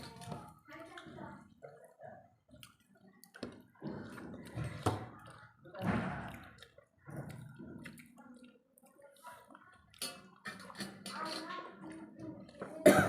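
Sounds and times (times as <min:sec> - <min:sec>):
wet squishy eating sounds: 0:00.0 - 0:10.8.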